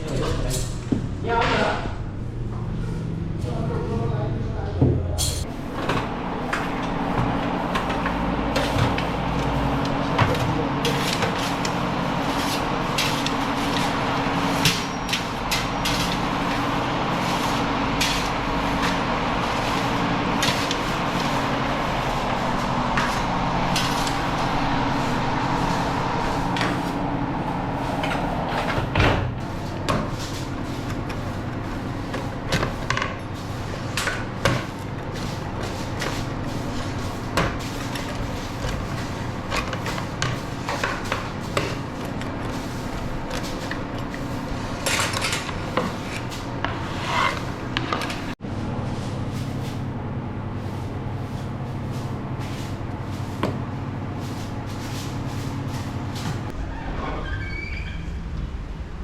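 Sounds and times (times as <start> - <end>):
low machine hum: 1.0 - 56.6.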